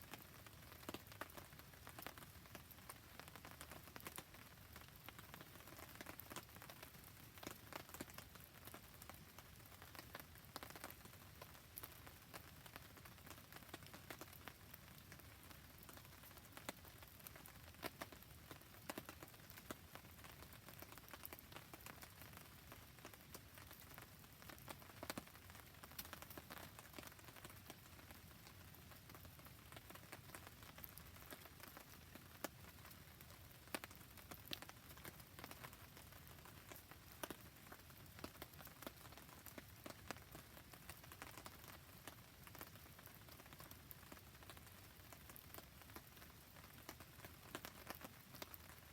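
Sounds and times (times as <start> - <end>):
faint rain: 0.0 - 48.9
campfire crackling: 0.1 - 48.7.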